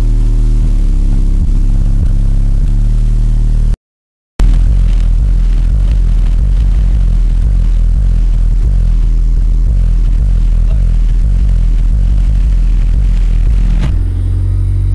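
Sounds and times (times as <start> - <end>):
loud bass-heavy music in car: 0.0 - 3.8, 4.4 - 14.9.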